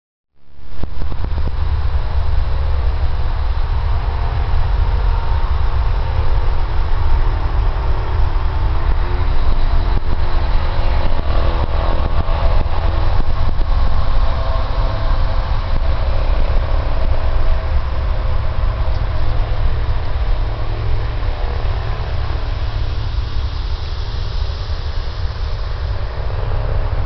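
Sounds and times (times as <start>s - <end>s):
steady low rumble: 0.4s - 27.0s
distant model airplane engines: 0.8s - 27.0s.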